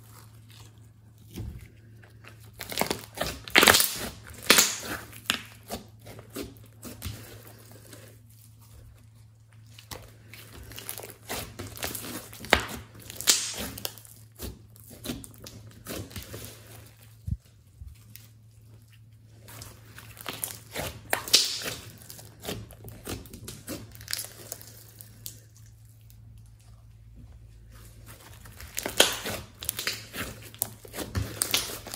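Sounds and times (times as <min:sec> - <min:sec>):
slime crackling and squelching: 0:00.0 - 0:31.9.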